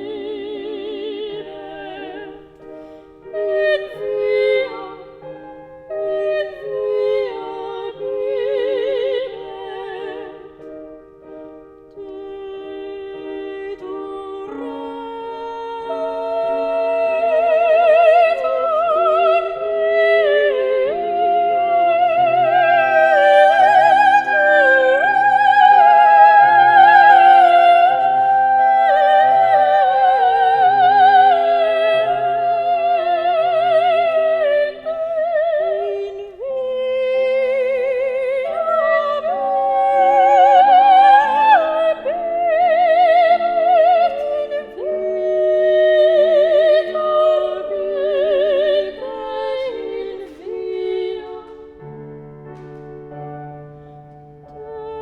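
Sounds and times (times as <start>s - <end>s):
classical singer with vibrato: 0.0s - 55.0s.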